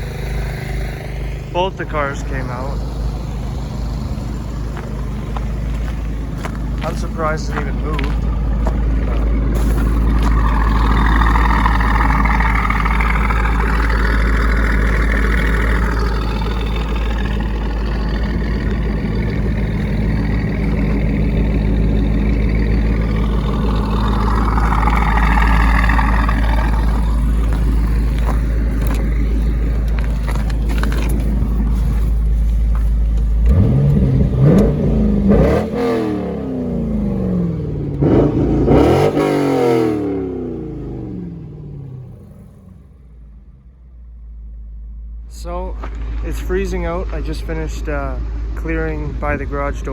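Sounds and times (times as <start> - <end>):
engine droning and revving: 0.0 - 49.9.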